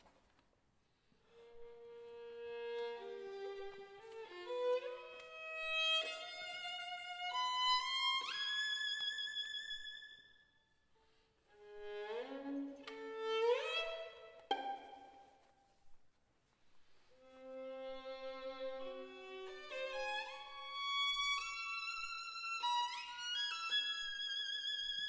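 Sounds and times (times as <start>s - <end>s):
solo violin playing: 1.2s - 10.3s, 11.5s - 15.4s, 17.1s - 25.0s.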